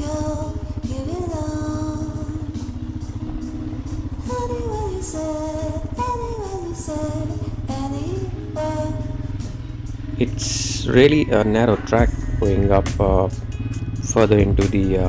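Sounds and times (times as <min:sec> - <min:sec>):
background music with singing: 0:00.0 - 0:15.0
motorcycle engine running: 0:00.0 - 0:15.0.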